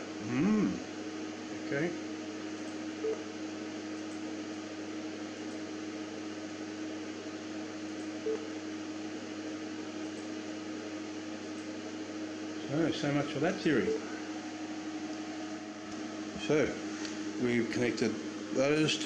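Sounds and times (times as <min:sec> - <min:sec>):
electronics machine hum: 0:00.0 - 0:19.0.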